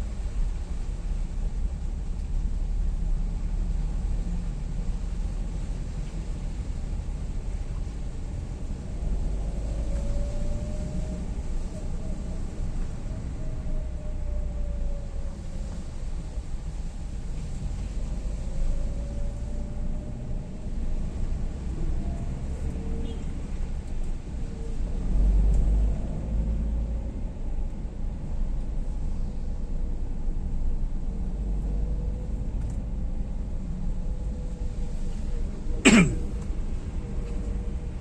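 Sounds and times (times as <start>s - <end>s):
vehicle rumble on road: 0.0s - 38.0s.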